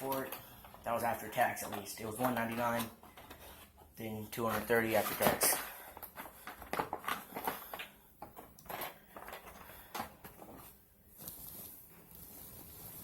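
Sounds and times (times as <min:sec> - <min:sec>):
objects being handled: 0:00.0 - 0:13.0.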